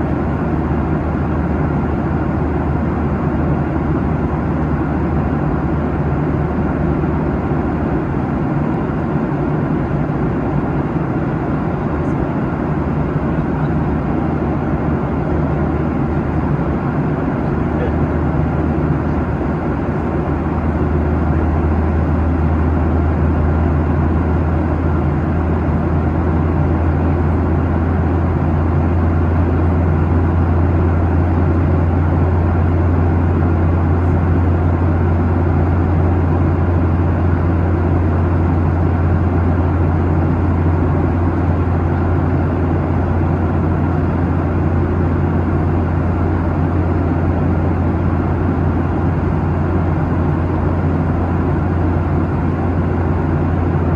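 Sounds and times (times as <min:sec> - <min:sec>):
airplane cabin engine hum: 0:00.0 - 0:53.9.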